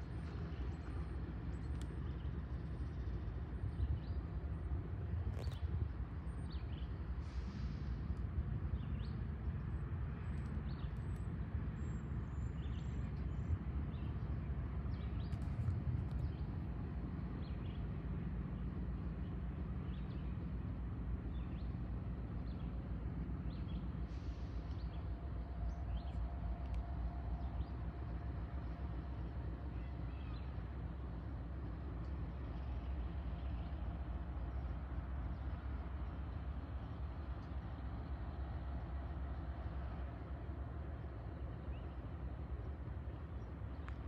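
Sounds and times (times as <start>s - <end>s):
faint steady whine: 0.0s - 44.0s
freight train rumbling: 0.0s - 44.0s.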